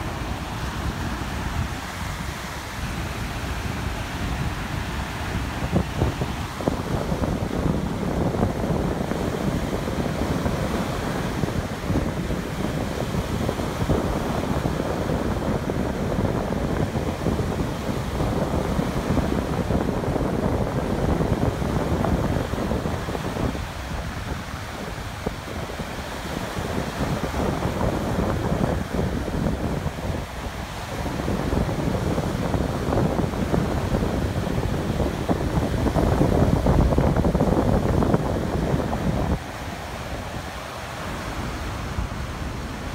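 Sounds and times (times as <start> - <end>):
waves breaking on shore: 0.0 - 42.9
wind buffeting microphone: 0.0 - 42.9.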